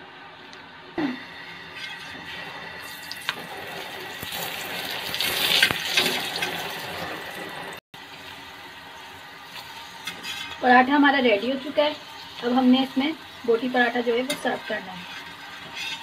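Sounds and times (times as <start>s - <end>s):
bread sizzling in a pan: 1.3s - 16.0s.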